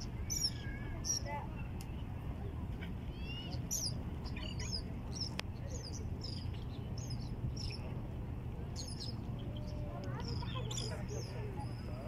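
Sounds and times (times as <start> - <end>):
small birds chirping: 0.0 - 2.2, 3.1 - 8.0, 8.7 - 12.0
steady low rumble: 0.0 - 12.0.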